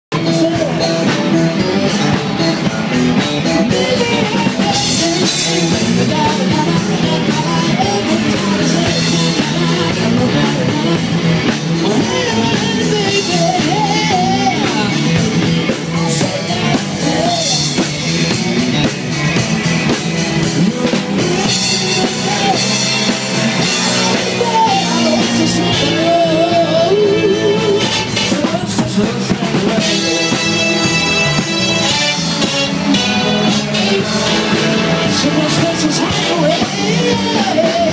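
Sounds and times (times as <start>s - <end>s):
drum kit: 0.1s - 37.9s
person singing: 0.1s - 37.9s
rock band playing live: 0.1s - 37.9s.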